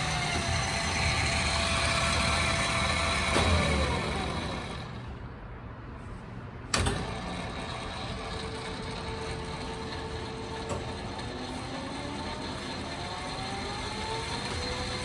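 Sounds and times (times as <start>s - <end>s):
lathe humming: 0.0s - 5.1s, 7.0s - 15.0s.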